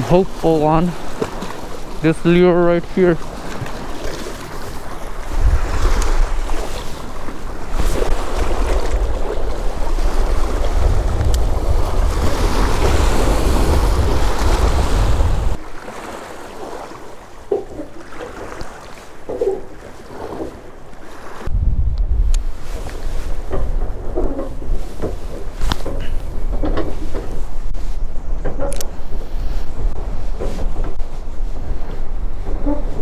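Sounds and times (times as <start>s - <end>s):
wind buffeting microphone: 0.0s - 15.7s, 21.3s - 33.0s.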